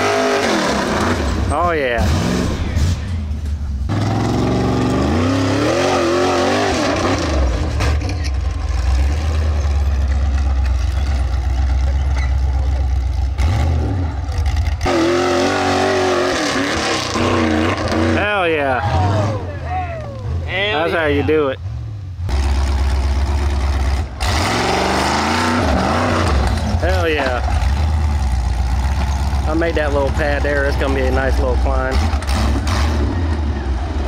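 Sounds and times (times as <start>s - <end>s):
buggy engine revving hard: 0.0s - 3.1s, 3.9s - 19.7s, 20.3s - 34.0s.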